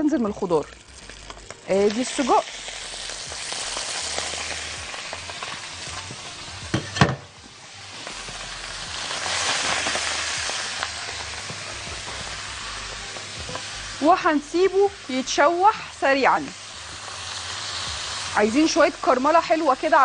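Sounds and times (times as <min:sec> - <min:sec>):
sausage sizzling in oil: 0:00.0 - 0:20.0.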